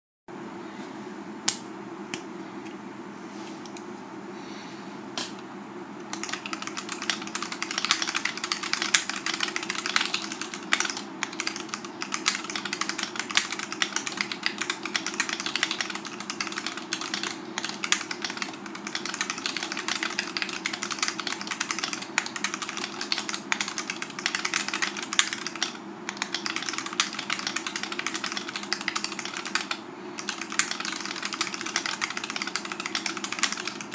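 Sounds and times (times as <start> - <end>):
typing on mechanical keyboard: 6.1 - 33.9.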